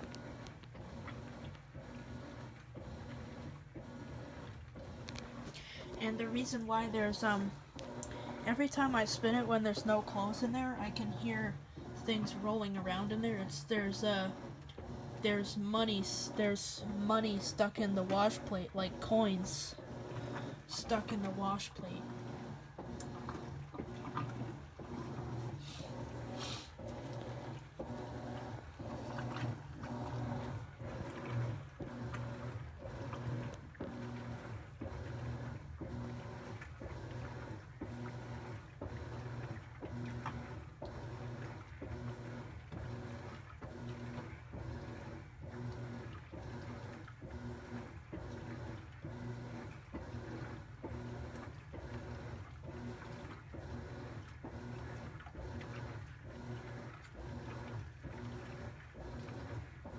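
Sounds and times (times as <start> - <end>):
washing machine motor hum: 0.0 - 59.9
water sloshing rhythmically: 0.0 - 59.9.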